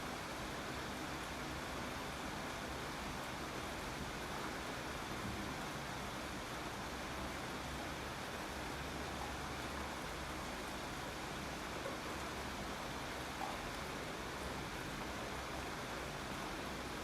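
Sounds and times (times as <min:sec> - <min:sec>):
faint raindrops: 0:00.0 - 0:17.0
steady rain: 0:00.0 - 0:17.0.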